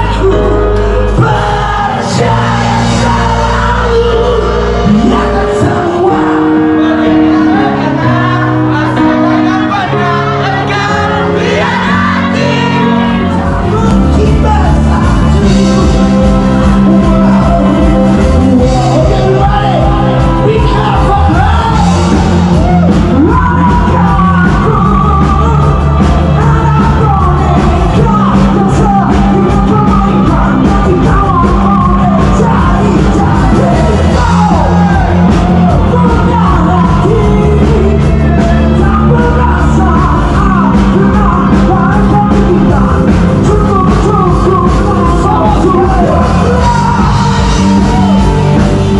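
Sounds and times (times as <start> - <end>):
live rock band playing: 0.0 - 48.9
person singing: 0.0 - 48.9
drums beating: 1.2 - 48.9.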